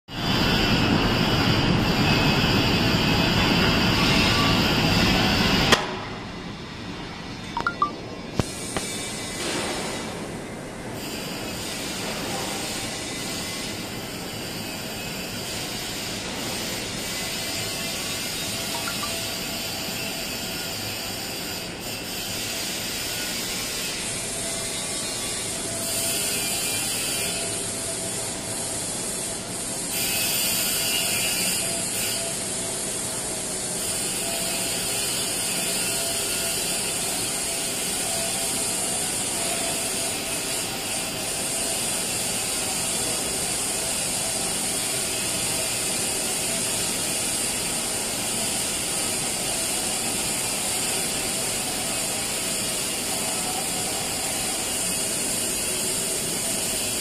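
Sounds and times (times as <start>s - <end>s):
factory machinery hiss and hum: 0.1s - 57.0s.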